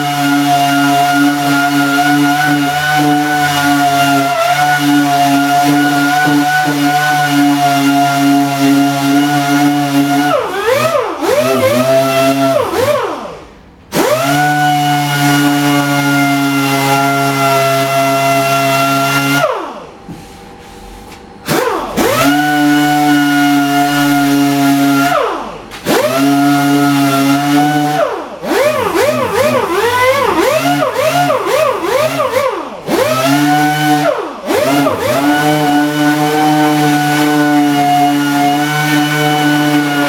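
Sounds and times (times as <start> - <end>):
orbital sander running: 0.0 - 13.2, 14.0 - 19.5, 21.5 - 25.2, 25.8 - 40.0.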